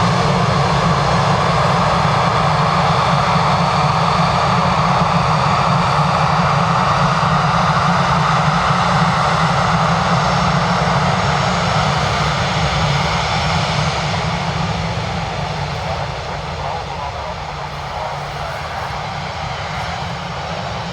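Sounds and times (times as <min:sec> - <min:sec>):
jet engines at take-off power: 0:00.0 - 0:20.9.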